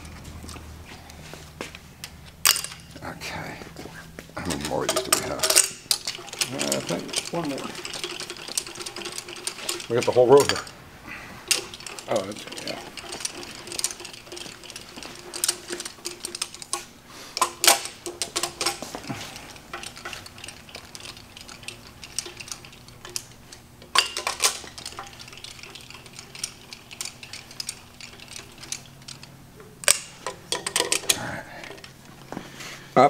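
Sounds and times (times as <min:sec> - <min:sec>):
faint steady hum: 0:00.0 - 0:33.0
metallic clicks of wrenches: 0:04.5 - 0:10.7, 0:11.5 - 0:31.9.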